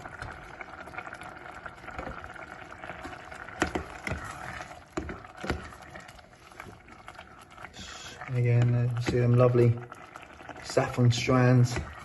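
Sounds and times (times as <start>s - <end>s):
risotto bubbling in a pan: 0.0s - 12.0s.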